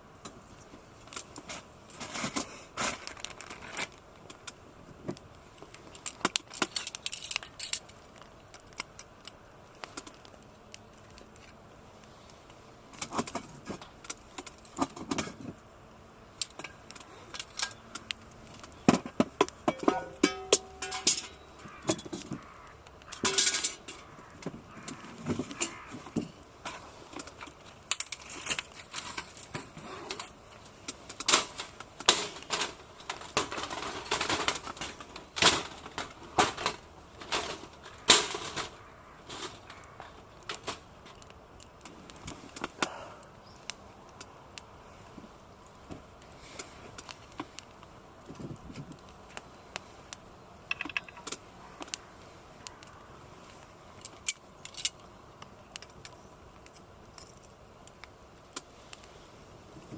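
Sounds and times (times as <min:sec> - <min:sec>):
small hard objects clicking: 0:01.0 - 0:11.6, 0:12.5 - 0:15.5, 0:16.3 - 0:44.7, 0:46.2 - 0:59.1.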